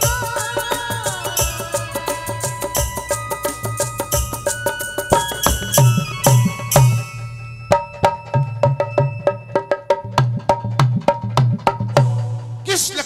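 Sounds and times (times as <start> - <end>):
hand drum strokes: 0.0 - 12.6.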